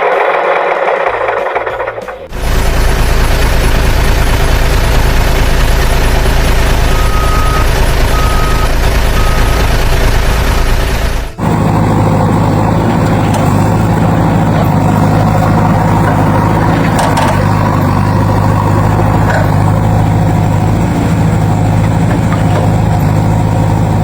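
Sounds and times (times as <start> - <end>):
heavy vehicle engine idling: 0.0 - 24.0.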